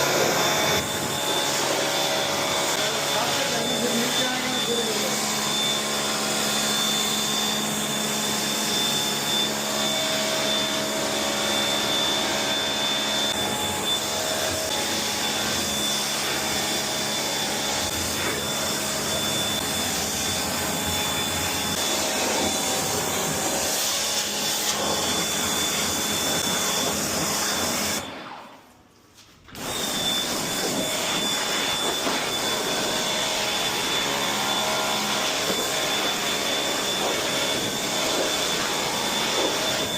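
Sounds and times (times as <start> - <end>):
pressure washer spraying: 0.0 - 6.8, 12.6 - 28.0, 29.6 - 39.9.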